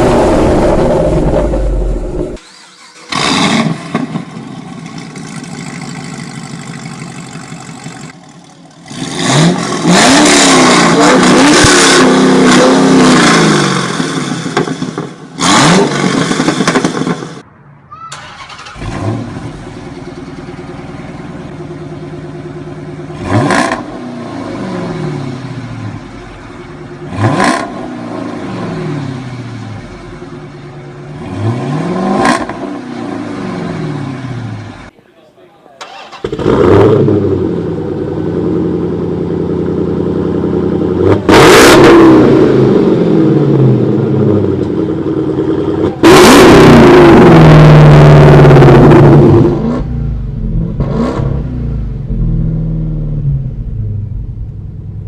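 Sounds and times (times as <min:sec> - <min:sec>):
car engine idling and revving: 0:00.0 - 0:17.6, 0:18.3 - 0:34.9, 0:36.1 - 0:55.0.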